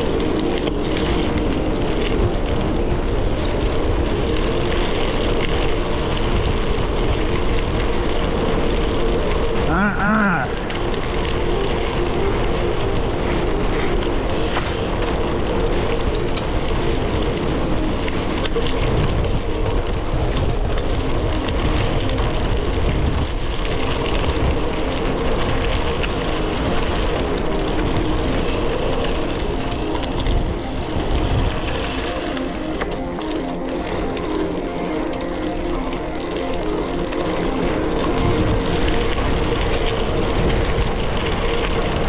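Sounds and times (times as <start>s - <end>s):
bike tyres rumbling on gravel: 0.0s - 42.0s
wavering hum: 0.0s - 42.0s
wind noise on microphone: 0.0s - 42.0s.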